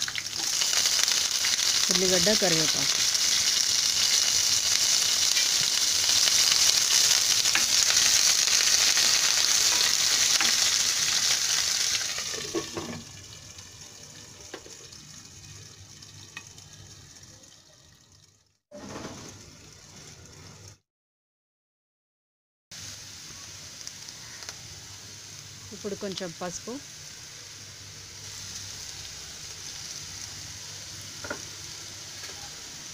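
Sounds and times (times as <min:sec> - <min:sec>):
food sizzling in oil: 0:00.0 - 0:20.6, 0:22.7 - 0:32.9.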